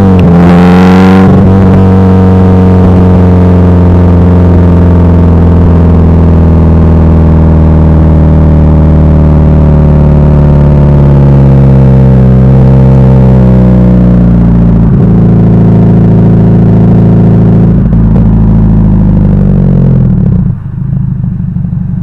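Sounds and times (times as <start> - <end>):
car engine exhaust drone: 0.0 - 22.0.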